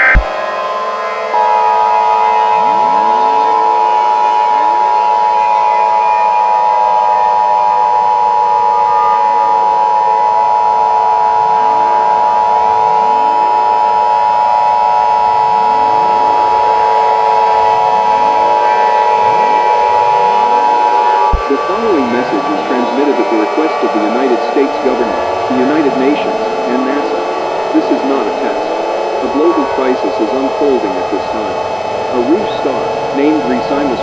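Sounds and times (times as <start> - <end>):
loud steady dual alert tone: 0.0 - 34.0.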